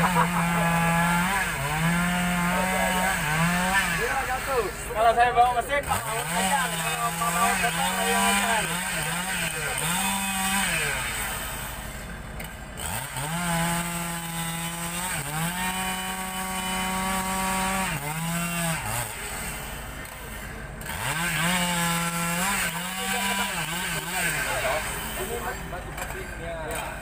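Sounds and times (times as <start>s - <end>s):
chainsaw cutting logs: 0.0s - 27.0s.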